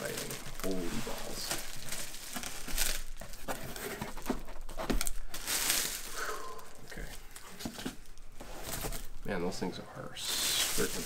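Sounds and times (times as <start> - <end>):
packaging crinkling and rustling: 0.0 - 9.6, 10.3 - 11.0.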